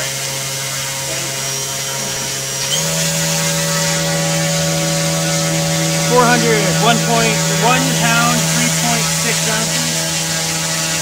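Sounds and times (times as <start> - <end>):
small electric motor spinning propeller: 0.0 - 11.0.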